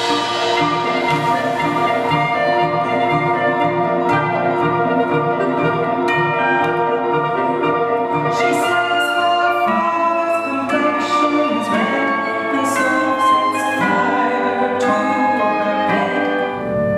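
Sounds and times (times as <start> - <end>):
live band playing instrumental: 0.0 - 16.9
struck ringing notes: 0.0 - 16.9.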